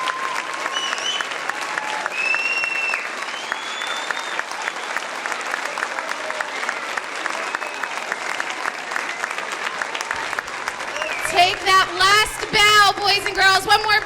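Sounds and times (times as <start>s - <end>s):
audience clapping: 0.0s - 14.0s.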